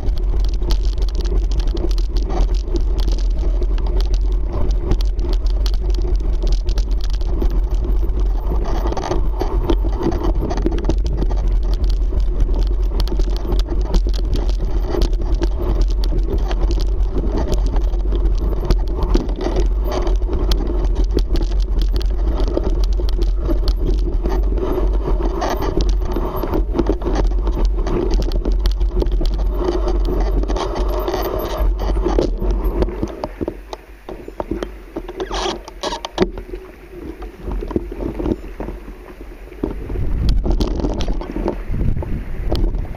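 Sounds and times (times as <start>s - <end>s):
bike rattling over stones: 0.0s - 42.9s
tyre noise: 0.0s - 42.9s
wind rumble on microphone: 0.0s - 42.9s.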